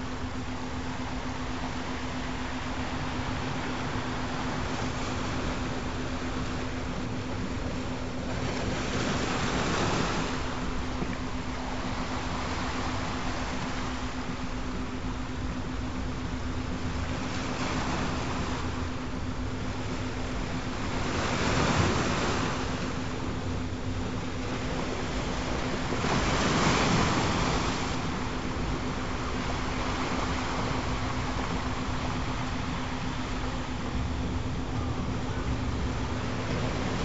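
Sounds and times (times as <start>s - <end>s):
ocean waves: 0.0s - 37.0s
steady low tone: 0.0s - 37.0s.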